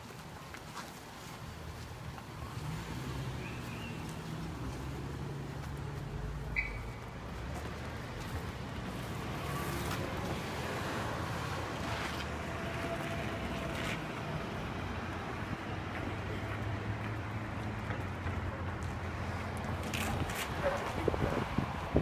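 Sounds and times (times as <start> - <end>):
street ambience rumble: 0.0 - 22.0.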